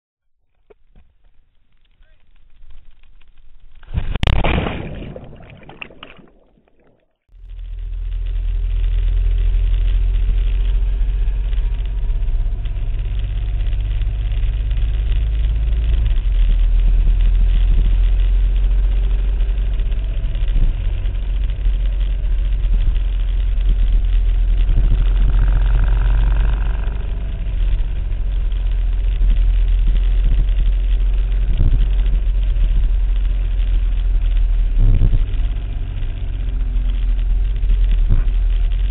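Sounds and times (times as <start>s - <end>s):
vehicle engine low rumble: 0.3s - 38.9s.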